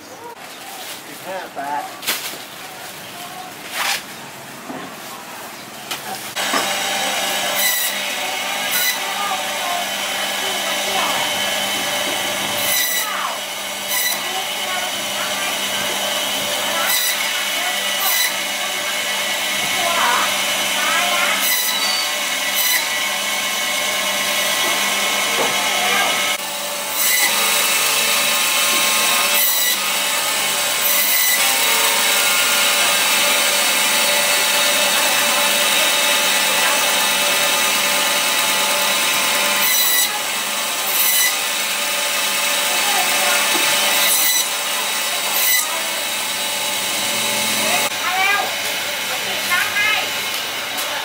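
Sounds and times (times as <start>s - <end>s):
band saw cutting bone: 6.3s - 51.0s.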